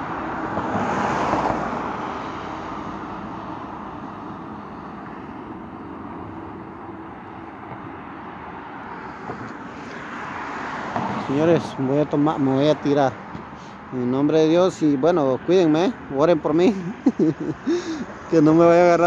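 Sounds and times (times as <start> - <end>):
traffic hum: 0.0 - 19.0
vehicle passing: 0.0 - 19.0.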